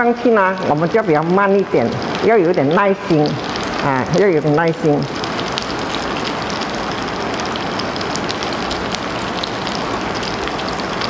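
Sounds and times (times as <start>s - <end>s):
food sizzling in oil: 0.2s - 11.0s
small oil crackles: 0.5s - 11.0s.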